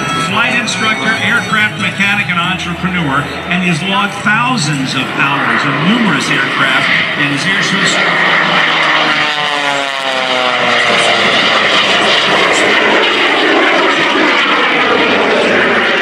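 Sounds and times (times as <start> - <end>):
airplane engine roar: 0.0 - 16.0.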